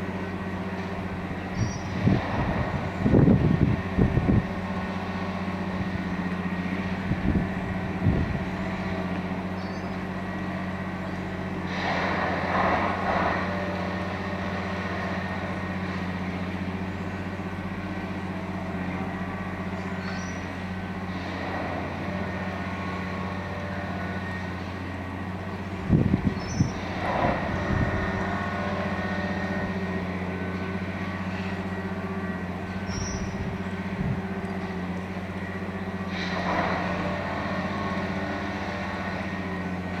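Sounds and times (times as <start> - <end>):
track maintenance machine running: 0.0 - 40.0.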